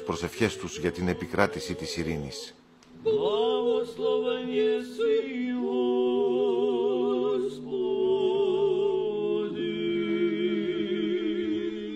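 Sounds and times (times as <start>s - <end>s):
choir chanting in parts: 0.0s - 11.9s.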